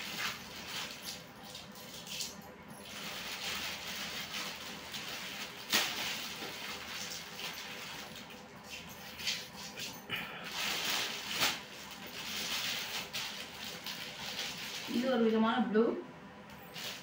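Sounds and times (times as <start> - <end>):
plastic packaging crinkling: 0.0 - 15.4, 16.6 - 17.0.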